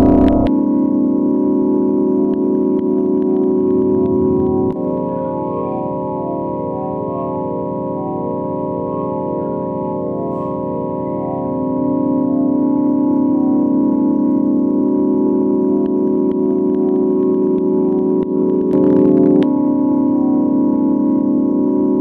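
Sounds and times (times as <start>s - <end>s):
electronic organ-like drone: 0.0s - 22.0s.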